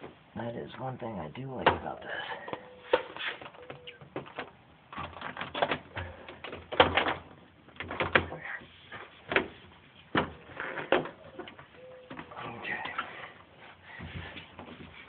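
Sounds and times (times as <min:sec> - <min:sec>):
mat rustling and crinkling: 0:02.2 - 0:15.0.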